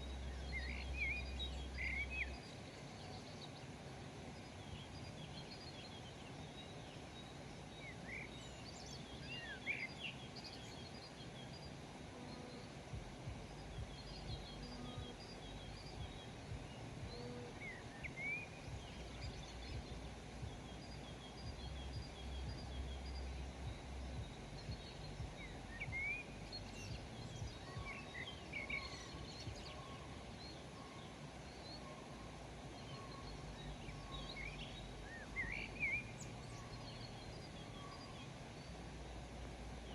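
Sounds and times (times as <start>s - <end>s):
outdoor background hiss: 0.0s - 39.9s
small birds chirping: 0.0s - 39.9s.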